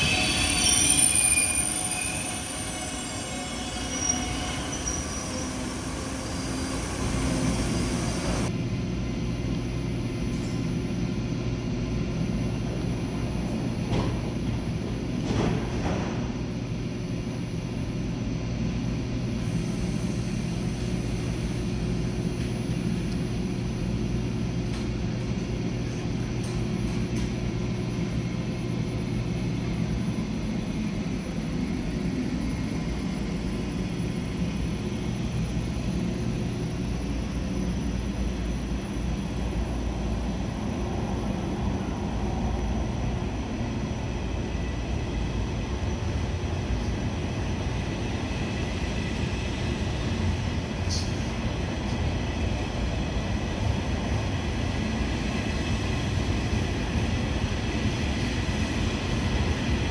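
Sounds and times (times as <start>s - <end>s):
electric train drone: 0.0s - 10.6s, 11.3s - 59.9s.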